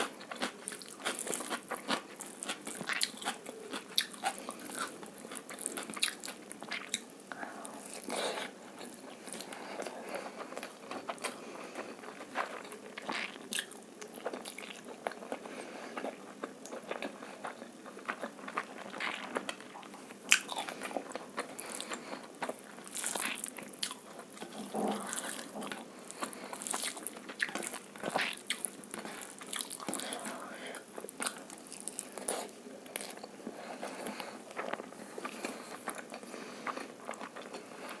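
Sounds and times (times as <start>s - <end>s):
close-miked chewing and crunching: 0.0s - 38.0s.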